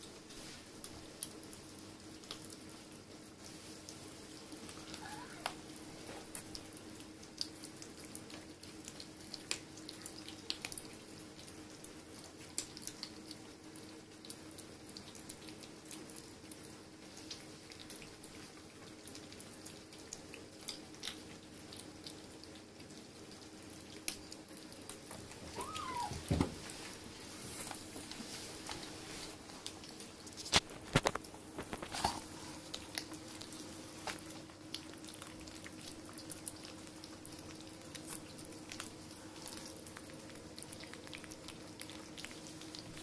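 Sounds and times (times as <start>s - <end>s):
faint steady hum: 0.0s - 43.0s
kittens chewing wet food: 0.0s - 43.0s.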